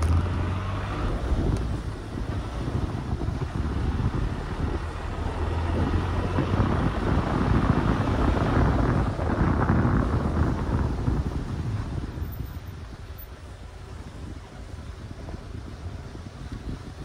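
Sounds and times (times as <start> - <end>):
car engine and tyres rumbling: 0.0 - 17.0
wind buffeting microphone: 0.0 - 17.0.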